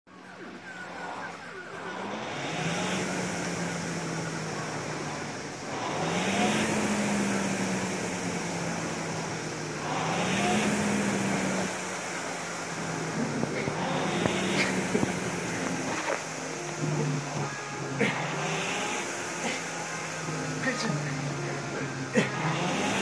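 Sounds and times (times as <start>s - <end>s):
rowing machine flywheel whirring: 0.1s - 23.0s.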